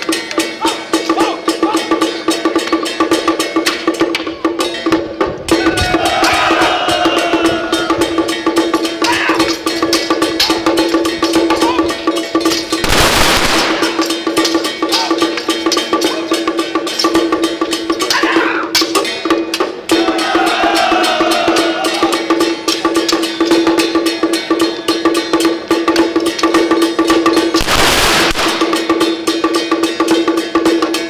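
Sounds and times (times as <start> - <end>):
temple drums gongs and cymbals: 0.0 - 31.0.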